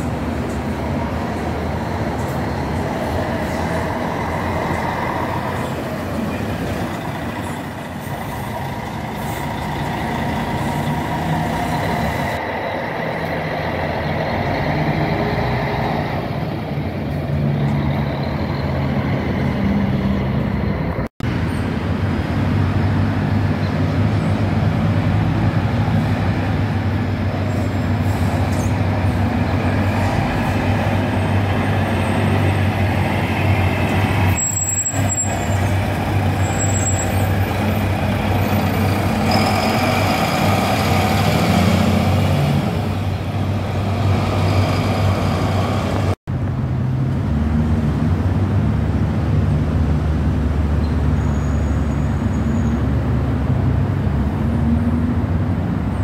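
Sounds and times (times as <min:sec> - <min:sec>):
coach engine passing: 0:00.0 - 0:21.0, 0:22.2 - 0:46.2
coach engine humming: 0:00.0 - 0:46.2.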